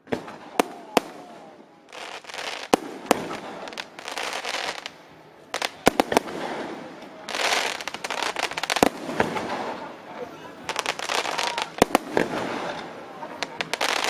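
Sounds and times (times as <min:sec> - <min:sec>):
fireworks bangs: 0:00.0 - 0:14.0
fireworks hissing crackle: 0:00.0 - 0:14.0.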